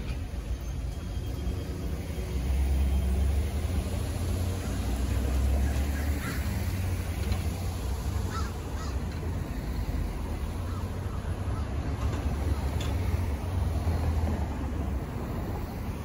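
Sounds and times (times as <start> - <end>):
cars passing close by: 0.0 - 16.0.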